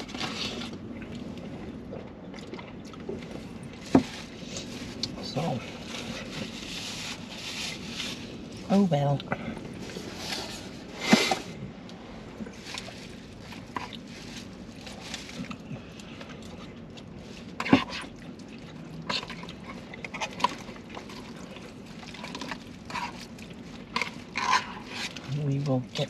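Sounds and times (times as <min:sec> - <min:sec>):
wet chewing and slurping: 0:00.0 - 0:08.6, 0:09.2 - 0:25.4.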